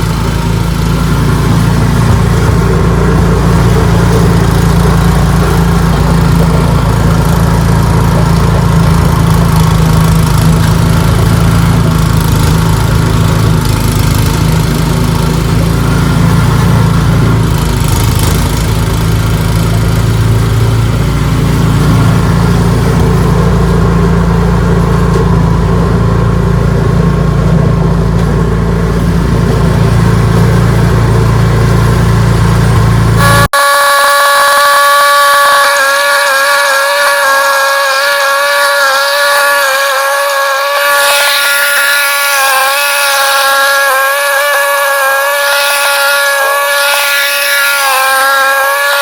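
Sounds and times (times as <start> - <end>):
snowblower engine running: 0.0 - 49.0.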